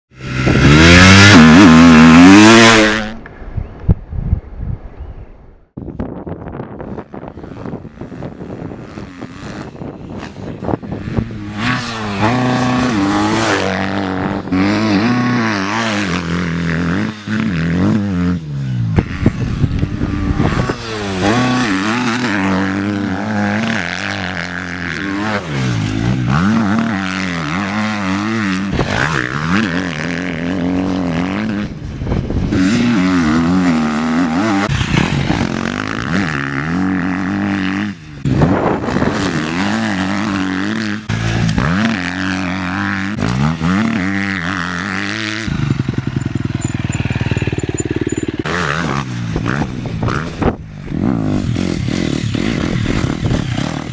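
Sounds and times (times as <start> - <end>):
motocross bike engine revving: 0.1 - 3.2, 7.1 - 53.9.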